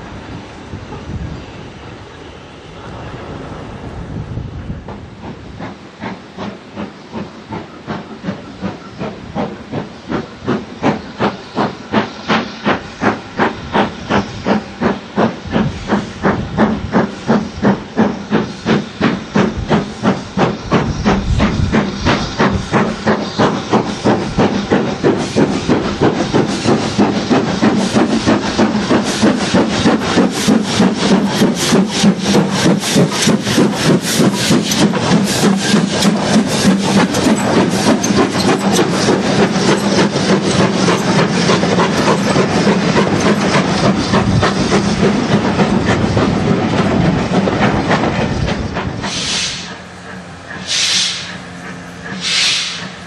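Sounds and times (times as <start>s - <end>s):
steam locomotive chuffing: 0.0s - 53.0s.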